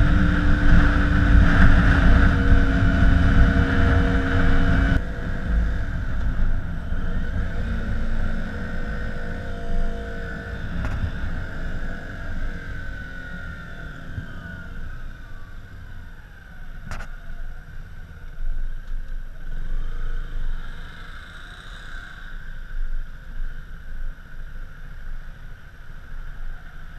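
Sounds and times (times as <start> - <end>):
motorcycle engine running: 0.0 - 25.3
wind and road noise: 0.0 - 26.9.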